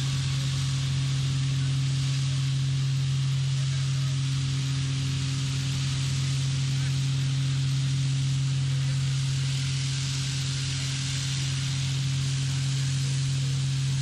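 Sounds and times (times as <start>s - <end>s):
high-pressure water jet hissing: 0.0s - 14.0s
low machine hum: 0.0s - 14.0s.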